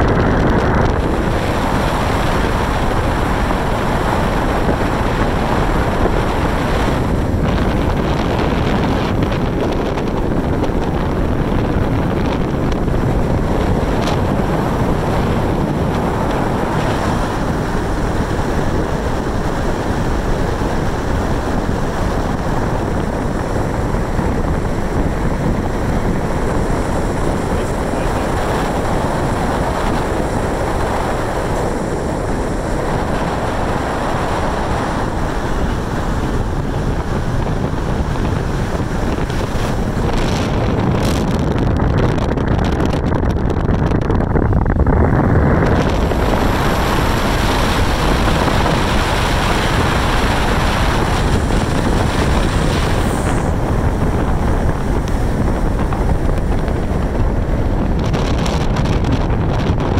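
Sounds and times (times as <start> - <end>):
car road and tyre noise: 0.0 - 59.9
wind rushing on microphone: 0.0 - 59.9.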